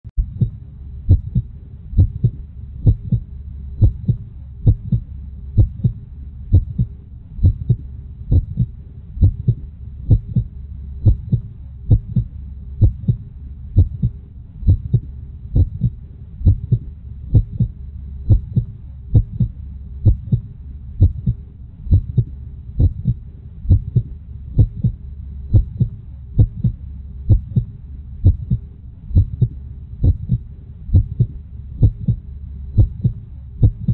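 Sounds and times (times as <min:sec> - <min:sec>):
heartbeat thumps: 0:00.1 - 0:33.9
low steady hum: 0:00.1 - 0:33.9.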